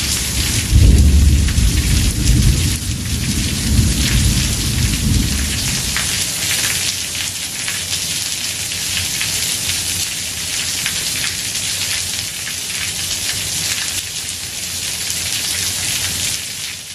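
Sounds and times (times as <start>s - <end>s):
heavy rain on a roof: 0.0s - 16.9s.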